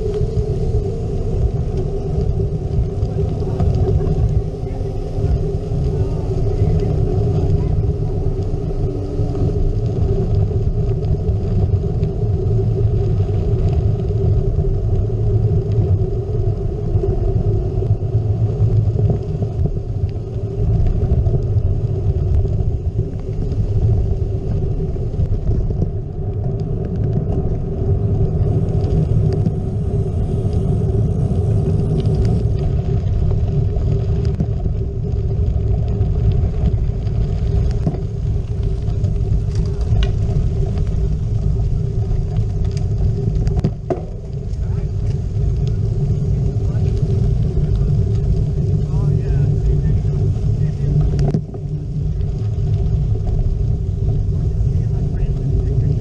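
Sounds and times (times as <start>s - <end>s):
bike tyres rolling on dirt road: 0.0s - 56.0s
wind noise on microphone: 0.0s - 56.0s.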